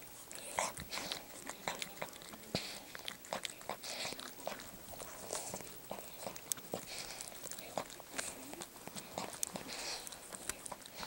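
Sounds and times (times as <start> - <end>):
dog licking wet smacking: 0.2 - 11.0.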